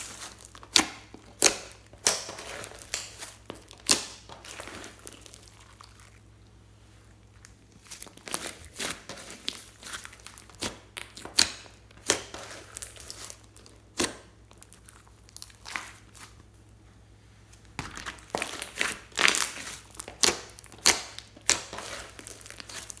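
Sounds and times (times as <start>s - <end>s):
slime crackling and popping: 0.0s - 6.2s, 7.4s - 16.4s, 17.7s - 23.0s.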